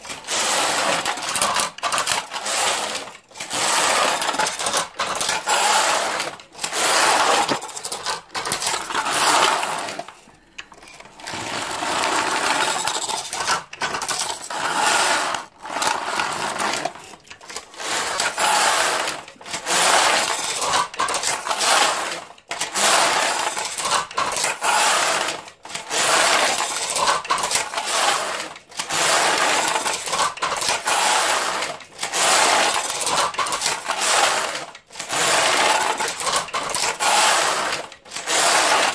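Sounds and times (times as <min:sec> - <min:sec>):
knitting machine lock rattling: 0:00.0 - 0:38.9.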